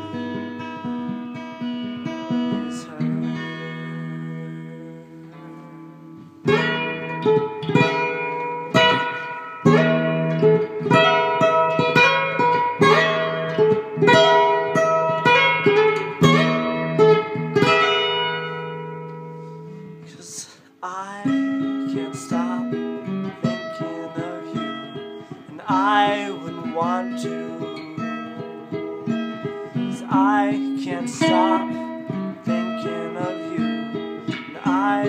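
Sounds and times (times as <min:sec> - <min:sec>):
acoustic guitar chords: 0:00.0 - 0:35.0.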